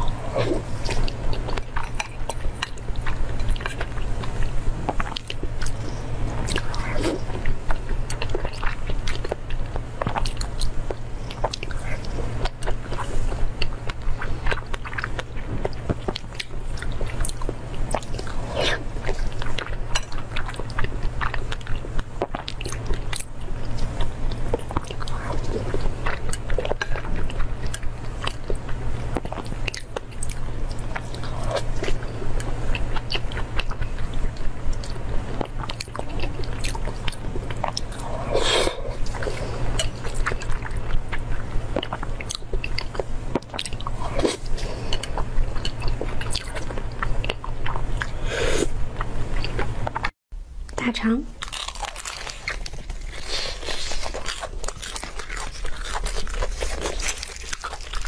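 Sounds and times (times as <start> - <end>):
wet chewing mouth sounds: 0.0 - 50.2, 51.4 - 58.0
steady low hum: 0.0 - 58.0.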